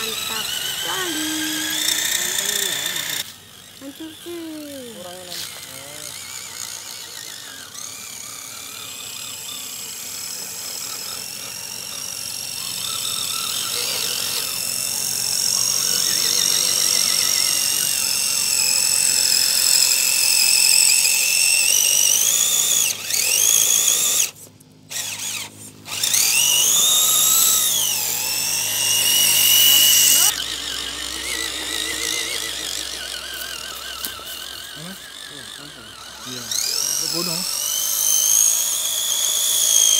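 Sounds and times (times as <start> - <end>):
electric motor and gears whining: 0.0 - 39.9.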